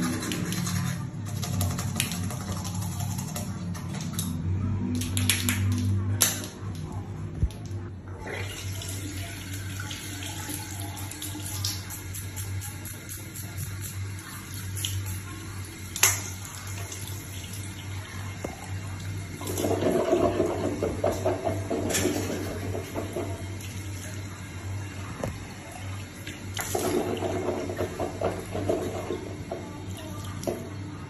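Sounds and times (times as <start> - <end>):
water running from tap: 0.0 - 6.6, 8.2 - 31.0.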